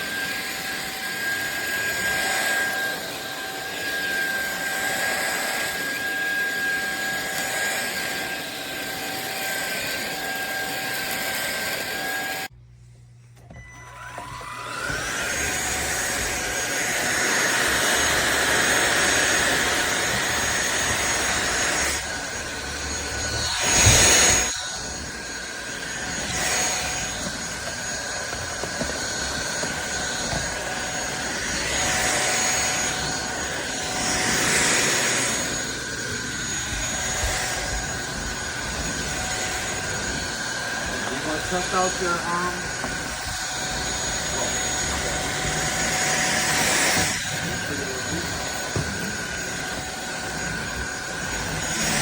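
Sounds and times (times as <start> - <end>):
vacuum cleaner motor whine: 0.0 - 52.0.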